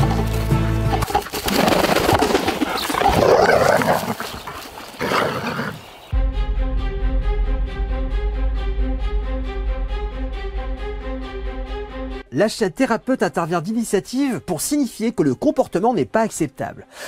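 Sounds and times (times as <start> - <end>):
background music: 0.0 - 3.8, 5.0 - 17.0.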